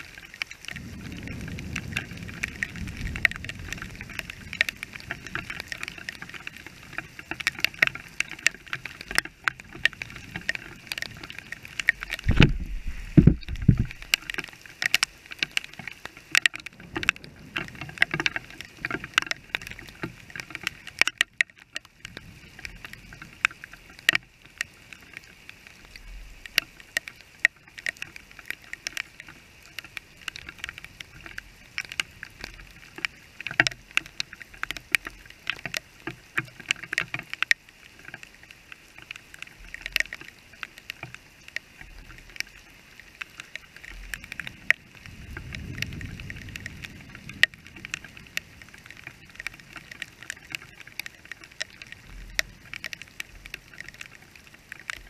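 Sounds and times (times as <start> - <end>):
rain hissing on wet pavement: 0.0 - 55.0
rain tapping on camera housing: 0.0 - 55.0.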